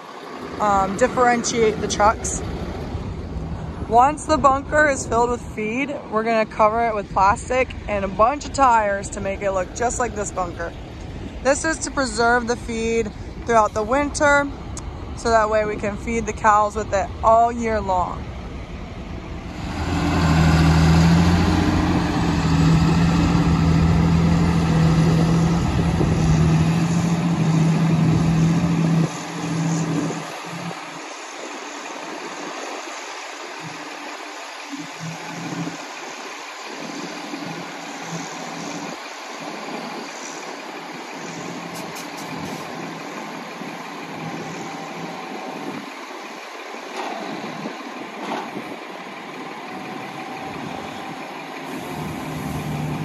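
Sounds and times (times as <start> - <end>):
distant engines: 0.0 - 53.0
loud diesel engine hum: 0.0 - 53.0.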